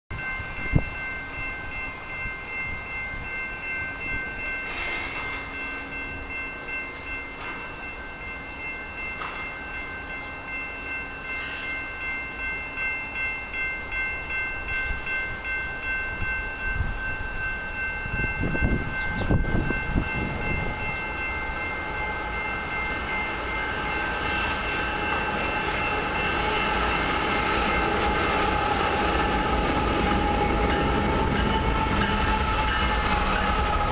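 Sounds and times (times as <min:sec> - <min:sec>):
freight train rumble: 0:00.1 - 0:33.9.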